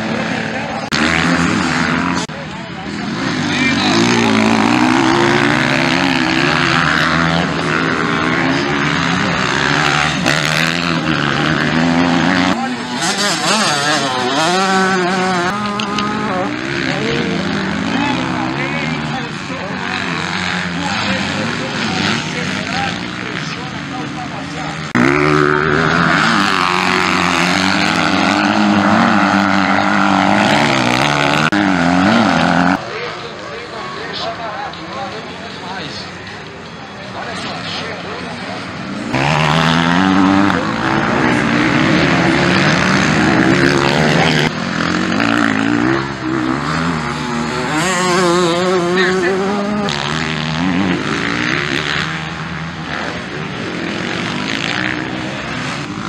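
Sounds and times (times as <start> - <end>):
motorbike engines revving: 0.0 - 56.0.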